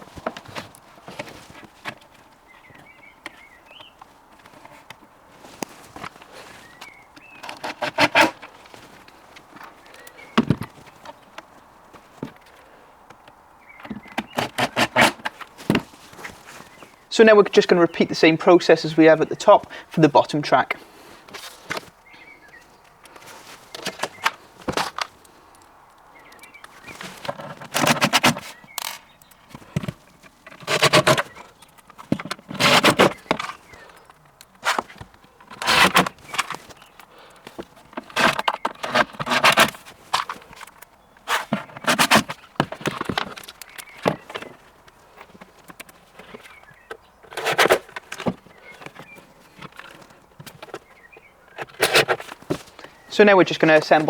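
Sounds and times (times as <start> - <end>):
plastic parts scraping and clicking: 0.0 - 18.7, 19.3 - 54.0.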